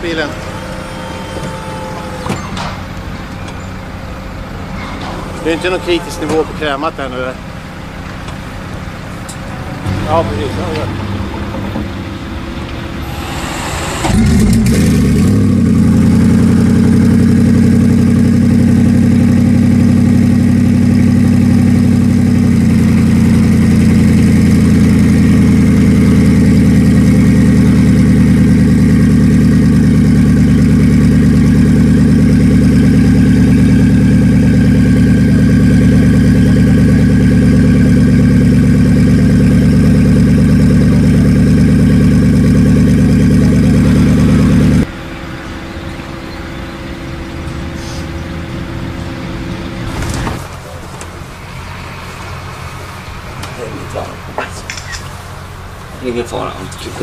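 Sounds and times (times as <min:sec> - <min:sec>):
car engine starting and idling: 0:00.0 - 0:57.0.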